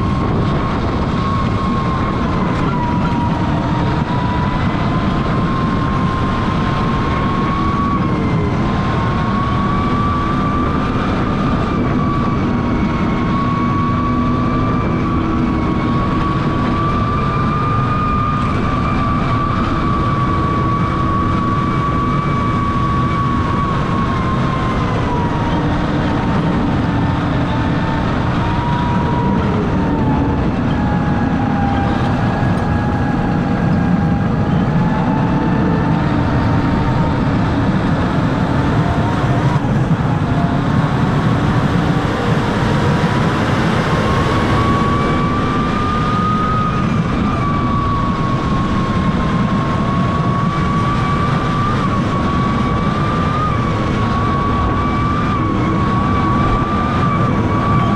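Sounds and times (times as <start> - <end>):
high engine whine: 0.0 - 57.9
tractor diesel engine rumbling: 0.0 - 57.9.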